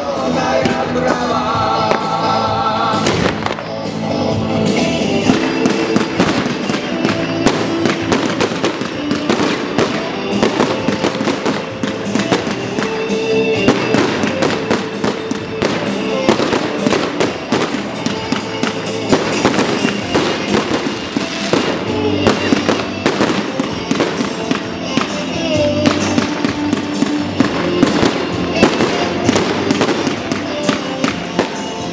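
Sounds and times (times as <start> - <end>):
fireworks bangs and crackles: 0.0 - 31.9
music playing: 0.0 - 31.9.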